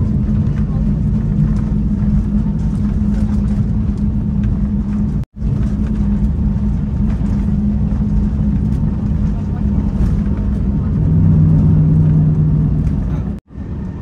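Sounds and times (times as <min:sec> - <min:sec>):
airliner cabin engine roar: 0:00.0 - 0:14.0
constant low hum: 0:00.0 - 0:14.0.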